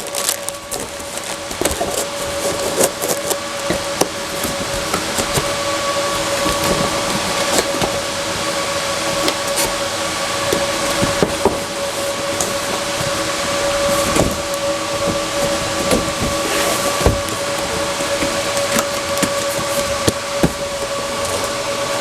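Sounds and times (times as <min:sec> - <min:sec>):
machine hum with whine: 0:00.0 - 0:22.0
packaging rustling: 0:00.0 - 0:22.0.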